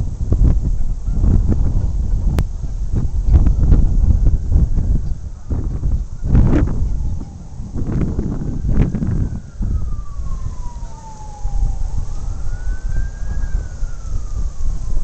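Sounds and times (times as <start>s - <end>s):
wind buffeting microphone: 0.0s - 15.0s
distant siren wailing: 0.4s - 15.0s.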